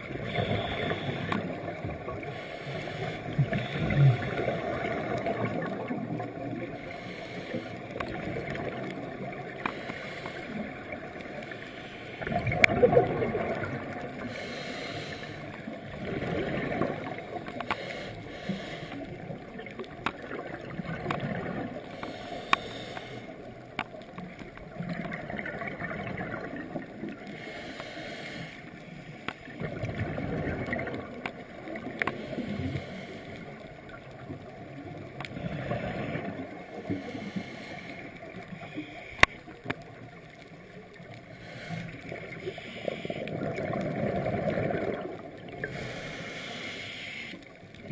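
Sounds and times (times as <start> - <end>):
muffled underwater exhaled bubbles: 0.0 - 47.9.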